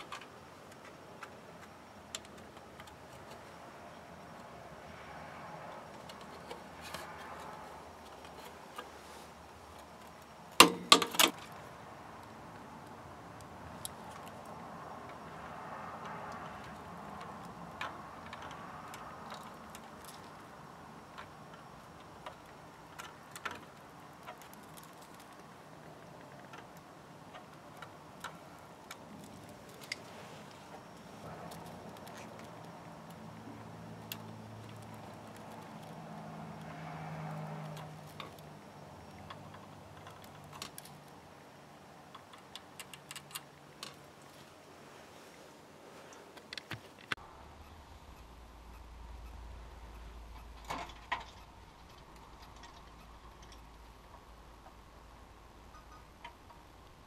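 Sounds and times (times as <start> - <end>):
small clicks and crackles: 0.0 - 45.4, 48.2 - 54.9.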